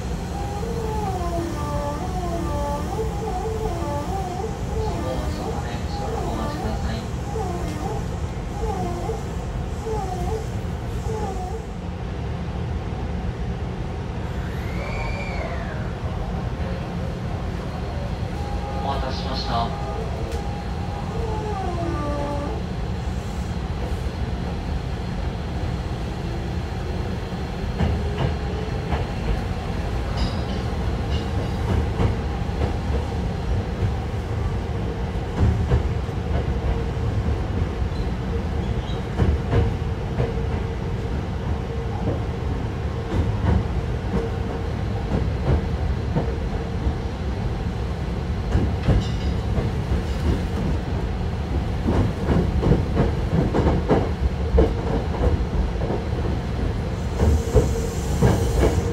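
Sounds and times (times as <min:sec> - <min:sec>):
train wheels rumbling: 0:00.0 - 0:58.9.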